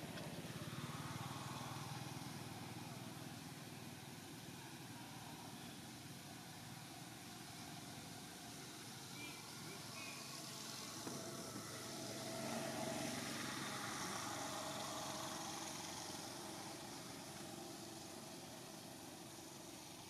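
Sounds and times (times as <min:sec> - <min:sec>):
outdoor background noise: 0:00.0 - 0:20.0
vehicle engine humming: 0:00.0 - 0:20.0.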